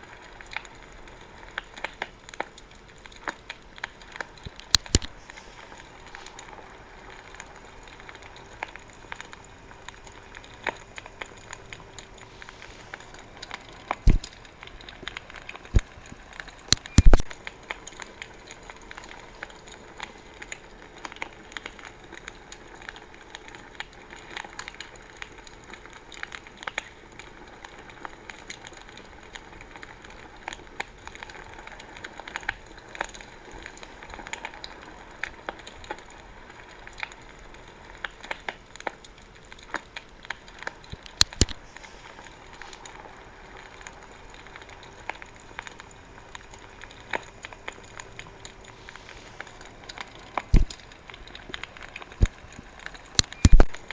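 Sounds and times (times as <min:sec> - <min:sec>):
bonfire crackling: 0:00.0 - 0:53.9
fire popping: 0:00.0 - 0:53.9.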